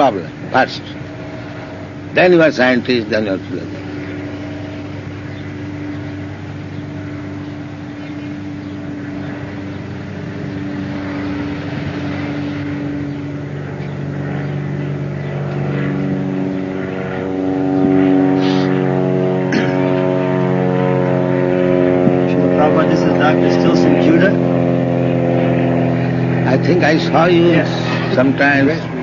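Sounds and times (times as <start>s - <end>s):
mechanical drone with held tones: 0.0s - 29.0s.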